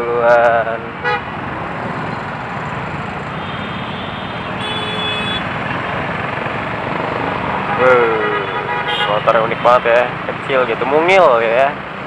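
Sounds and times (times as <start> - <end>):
traffic and road noise: 0.0 - 12.0.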